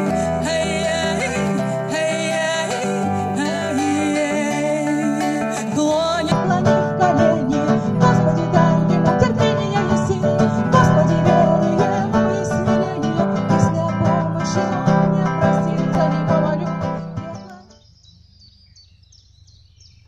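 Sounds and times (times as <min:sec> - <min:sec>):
acoustic guitar playing: 0:00.0 - 0:17.8.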